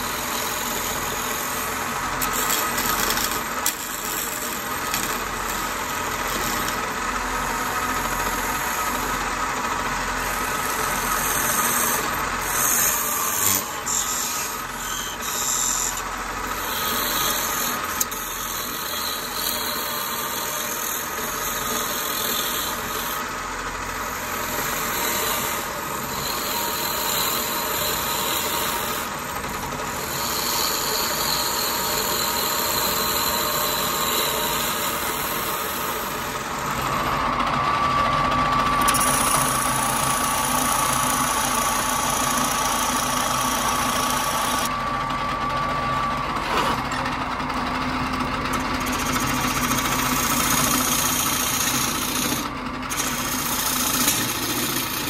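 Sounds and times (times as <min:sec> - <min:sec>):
spade bit boring into wood: 0:00.0 - 0:09.0, 0:10.2 - 0:23.3, 0:24.1 - 0:37.2, 0:38.7 - 0:44.8, 0:48.9 - 0:55.0
turning tool cutting wood: 0:00.0 - 0:55.0
wood lathe running: 0:00.0 - 0:55.0.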